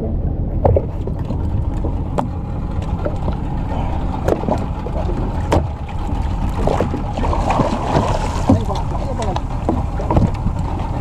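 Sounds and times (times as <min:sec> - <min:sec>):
boat engine low rumble: 0:00.0 - 0:11.0
water against hull: 0:00.0 - 0:11.0
sharp knocks on boat: 0:00.6 - 0:03.4, 0:04.1 - 0:11.0.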